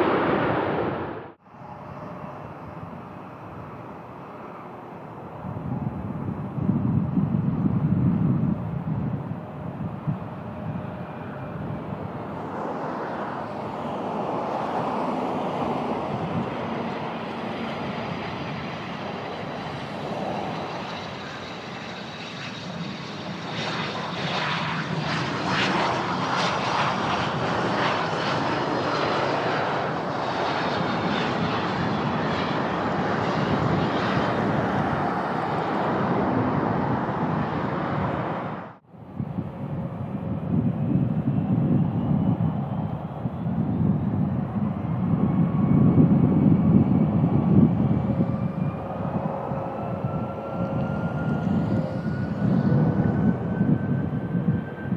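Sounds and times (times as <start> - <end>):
airplane engines passing: 0.0 - 54.9
wind buffeting microphone: 0.0 - 54.9.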